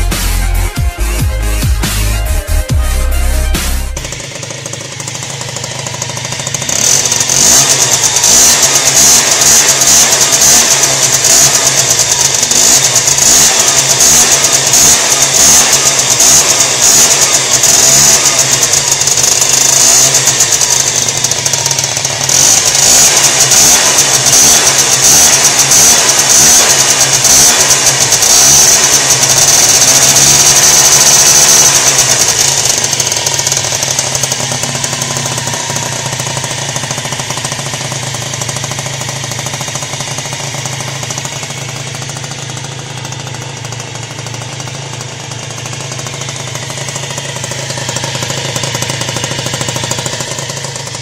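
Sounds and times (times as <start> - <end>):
scooter engine revving and idling: 0.0 - 51.0.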